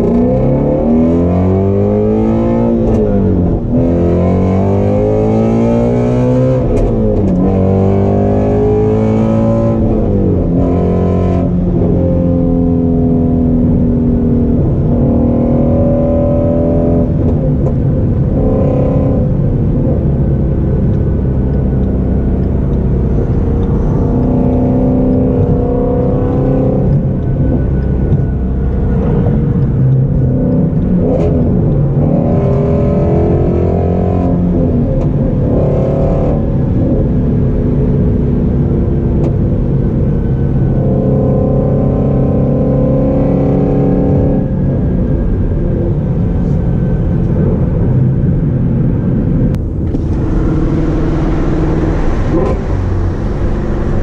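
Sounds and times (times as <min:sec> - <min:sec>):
car engine from inside cabin: 0:00.0 - 0:54.0.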